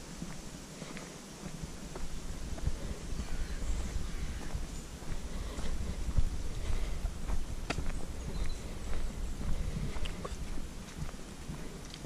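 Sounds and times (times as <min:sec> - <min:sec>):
footsteps on dry leaves: 0:00.0 - 0:12.0
wind rumble on microphone: 0:01.4 - 0:12.0.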